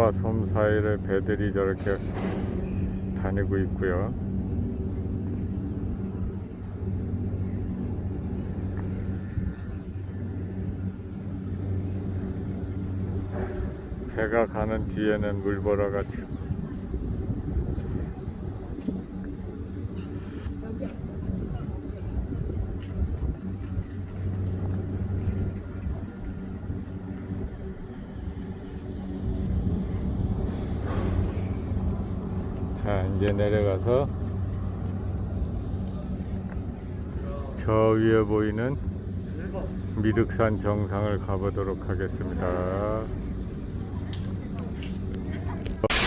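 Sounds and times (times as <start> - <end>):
constant low hum: 0.0 - 46.0
engine drone: 0.0 - 46.0
low mechanical rumble: 0.0 - 46.0.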